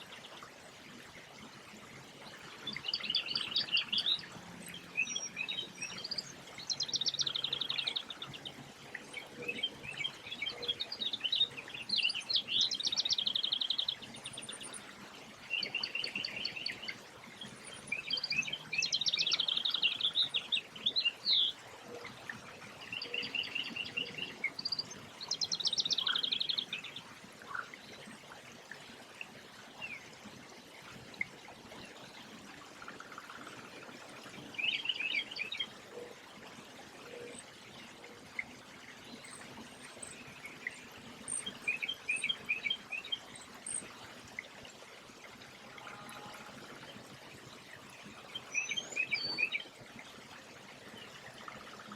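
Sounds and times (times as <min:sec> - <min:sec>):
songbird chirps and trills: 0:00.0 - 0:51.9.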